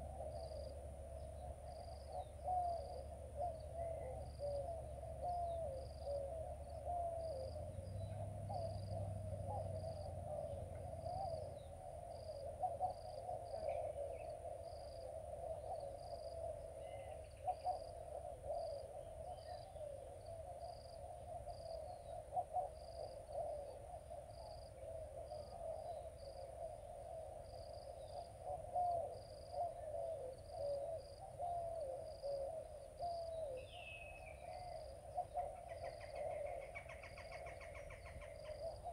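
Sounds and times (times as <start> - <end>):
birds cooing and hooting: 0.0 - 38.9
insect chirping: 0.0 - 38.9.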